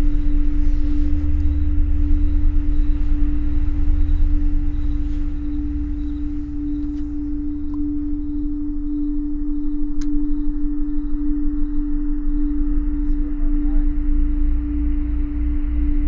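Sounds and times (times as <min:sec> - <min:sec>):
deep rumble: 0:00.0 - 0:16.0
wavering humming drone: 0:00.0 - 0:16.0.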